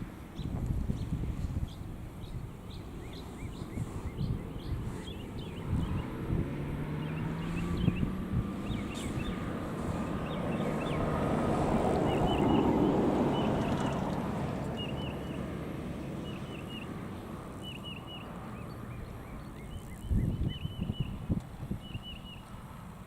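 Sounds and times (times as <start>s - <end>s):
vehicle passing on road: 0.0s - 23.0s
bird chirping: 0.4s - 11.3s, 11.9s - 17.0s, 17.6s - 22.5s.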